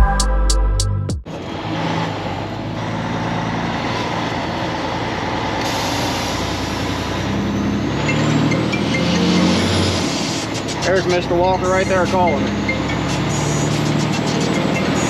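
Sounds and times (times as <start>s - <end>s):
truck diesel engine droning: 1.3s - 15.0s
road noise hiss: 1.5s - 7.8s, 9.1s - 15.0s.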